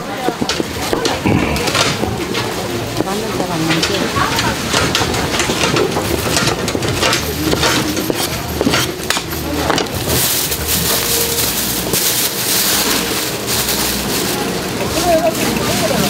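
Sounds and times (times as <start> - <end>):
plastic bag rustling and crinkling: 0.6 - 16.0.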